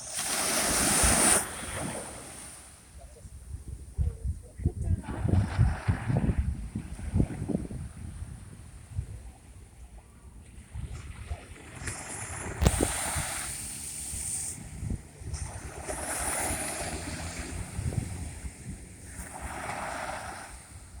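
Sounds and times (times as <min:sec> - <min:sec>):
sea waves breaking: 0:00.0 - 0:03.0, 0:05.0 - 0:09.6, 0:10.3 - 0:21.0
wind buffeting microphone: 0:03.2 - 0:21.0.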